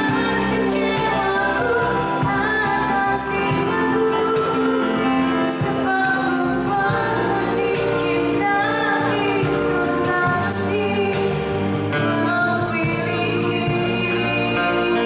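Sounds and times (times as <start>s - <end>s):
live instrumental accompaniment: 0.0s - 15.0s
woman singing into microphone: 0.0s - 15.0s.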